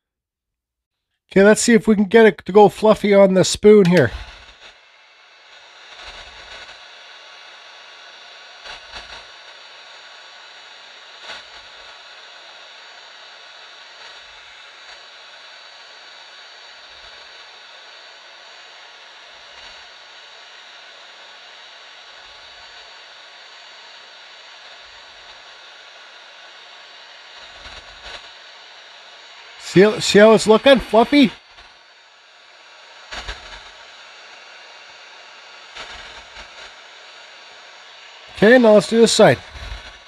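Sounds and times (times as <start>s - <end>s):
heat gun blowing hot air: 3.8s - 40.0s.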